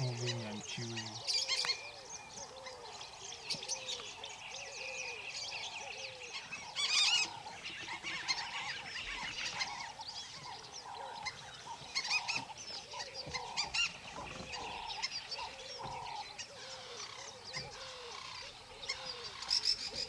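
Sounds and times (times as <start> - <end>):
birds chirping: 0.0 - 20.0
harsh bird calls: 0.0 - 20.0.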